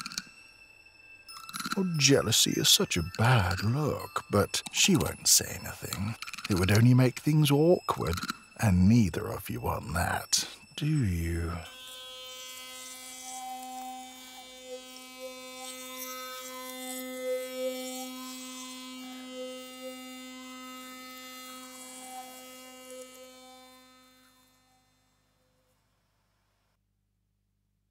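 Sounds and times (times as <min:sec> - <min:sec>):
electric buzz: 0:00.0 - 0:25.2.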